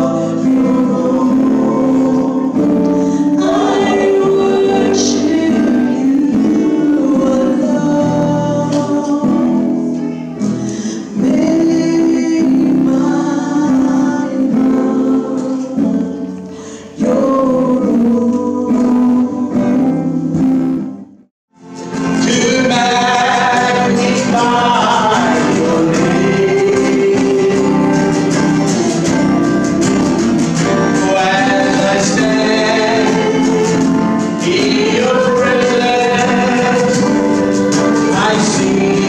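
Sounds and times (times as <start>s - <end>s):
men and women singing gospel: 0.0s - 9.9s, 10.5s - 20.0s, 22.0s - 39.0s
acoustic guitar: 0.0s - 39.0s.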